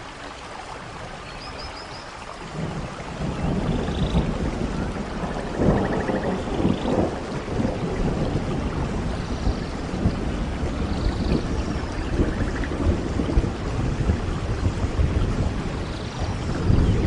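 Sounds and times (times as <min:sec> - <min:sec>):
steady rain: 0:00.0 - 0:17.0
thunder rumbling: 0:02.5 - 0:17.0.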